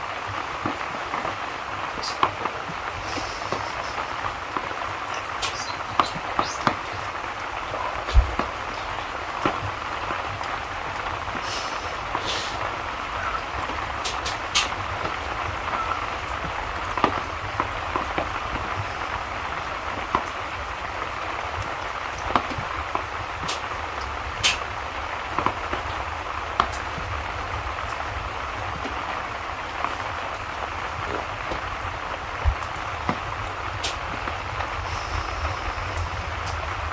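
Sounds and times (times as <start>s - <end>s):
fireplace wood crackling: 0.0s - 36.9s
steady rain: 0.0s - 36.9s.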